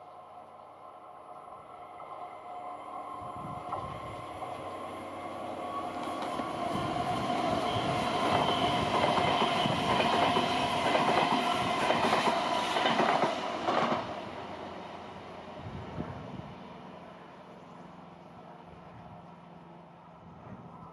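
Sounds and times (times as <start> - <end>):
train wheels rolling on rail: 0.3 - 20.9.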